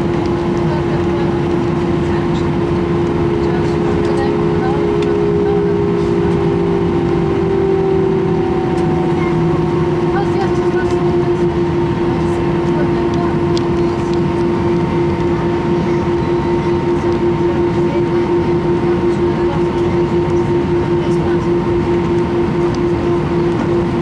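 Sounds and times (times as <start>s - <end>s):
aircraft cabin hum: 0.0s - 24.0s.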